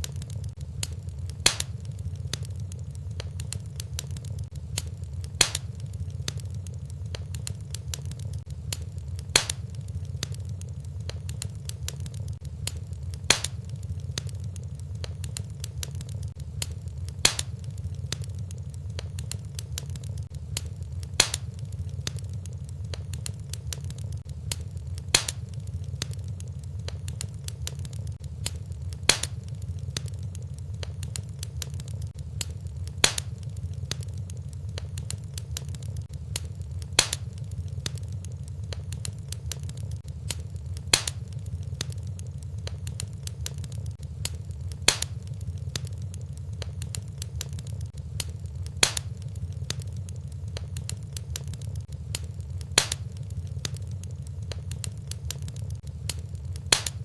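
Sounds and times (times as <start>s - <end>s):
low fire rumble: 0.0s - 57.0s
sharp fire pops: 0.0s - 57.0s
wood fire crackling: 0.0s - 57.0s.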